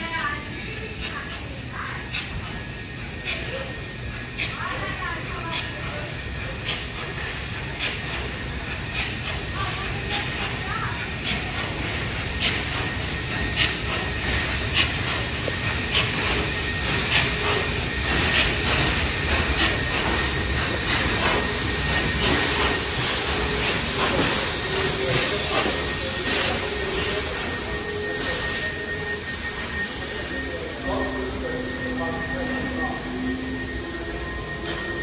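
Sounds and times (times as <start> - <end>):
steam hissing: 0.0 - 35.0
steam locomotive rumble: 0.0 - 35.0.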